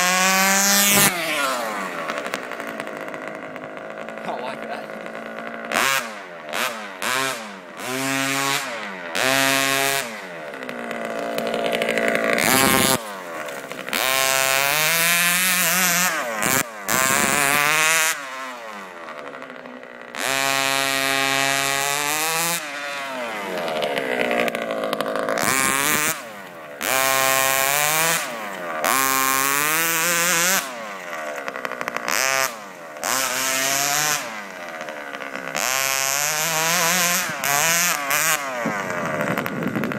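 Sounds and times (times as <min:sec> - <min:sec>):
small two-stroke engine revving: 0:00.0 - 0:39.9.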